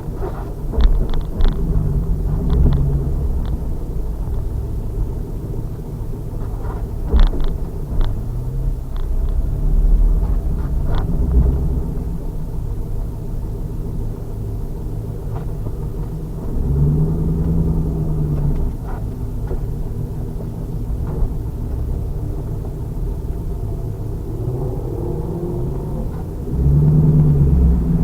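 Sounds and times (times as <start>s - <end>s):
car engine exhaust rumble: 0.0s - 28.0s.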